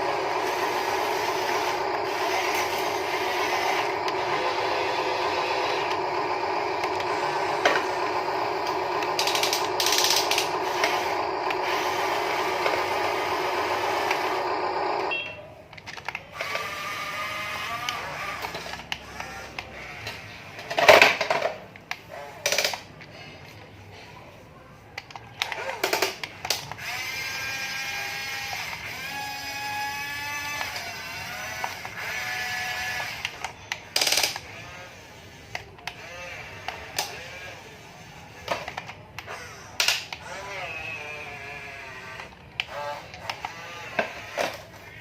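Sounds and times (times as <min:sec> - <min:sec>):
model excavator motors whining: 0:00.0 - 0:45.0.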